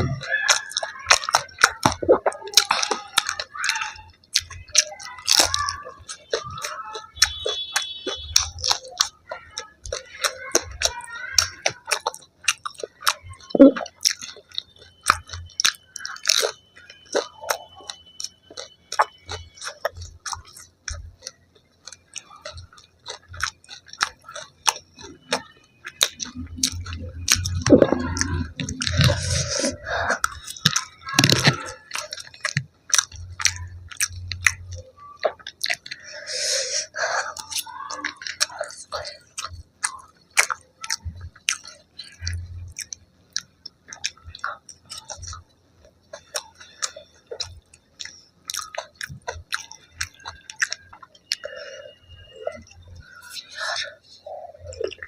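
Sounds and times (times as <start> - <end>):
chewing crunchy fried food: 0.0 - 55.0.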